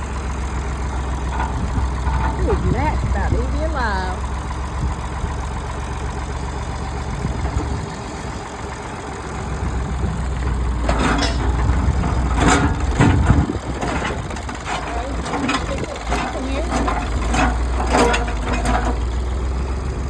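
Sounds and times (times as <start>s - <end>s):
tractor engine running under load: 0.0s - 20.0s.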